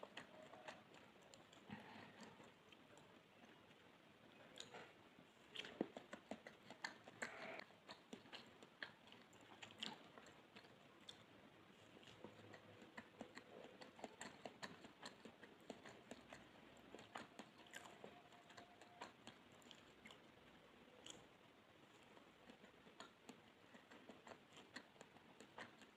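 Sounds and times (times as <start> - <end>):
wet mouth chewing clicks: 0.0 - 3.3, 4.6 - 20.4, 21.0 - 25.9.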